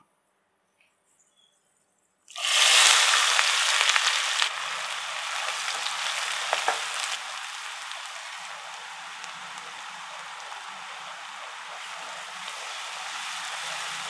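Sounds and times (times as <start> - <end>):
onions sizzling in hot oil: 2.3 - 14.0.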